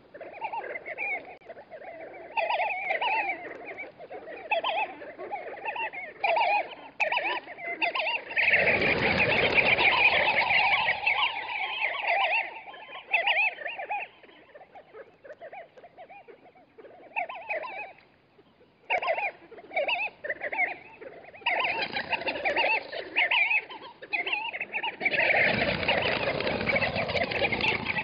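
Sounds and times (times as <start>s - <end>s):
flock of small birds calling: 0.0s - 28.0s.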